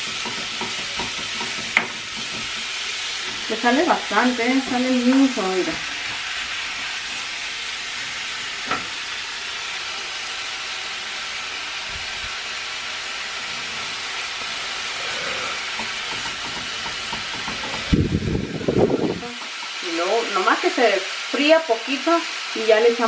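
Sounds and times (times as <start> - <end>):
meat sizzling in a pan: 0.0 - 23.0.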